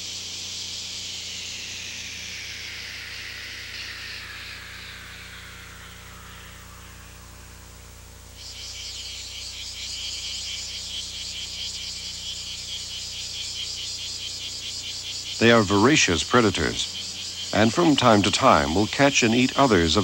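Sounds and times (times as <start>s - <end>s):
insect trilling: 0.0s - 20.0s
low steady hum: 0.0s - 20.0s
soft falling hiss: 0.0s - 20.0s.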